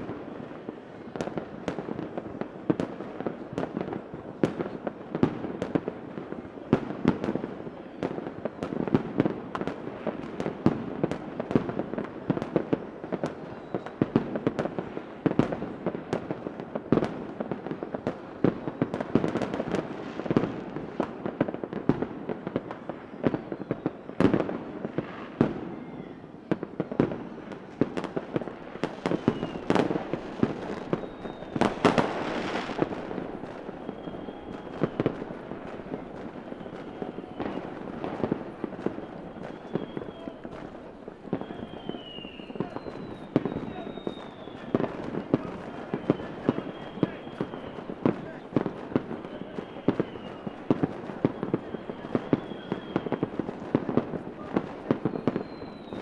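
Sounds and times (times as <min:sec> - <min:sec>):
faint firework whistles: 0:00.0 - 0:56.0
fireworks bangs and crackling: 0:00.0 - 0:56.0.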